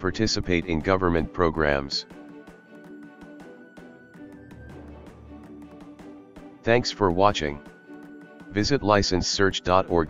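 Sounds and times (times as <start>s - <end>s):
soft background music with beat: 0.0s - 10.0s.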